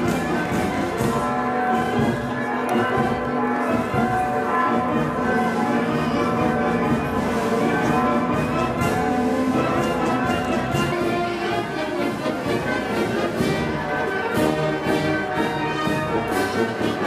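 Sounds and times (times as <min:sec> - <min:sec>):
brass band playing chords: 0:00.0 - 0:17.0.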